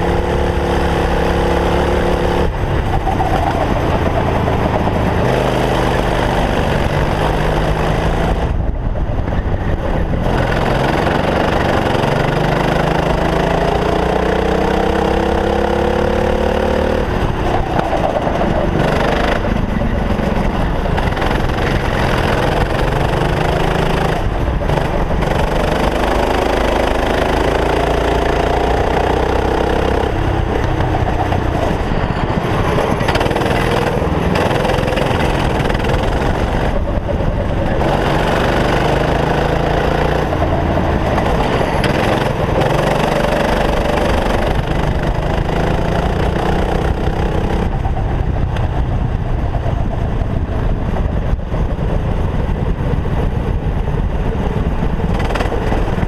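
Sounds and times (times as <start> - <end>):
kart engine at full throttle: 0.0 - 56.0
wind noise: 0.0 - 56.0.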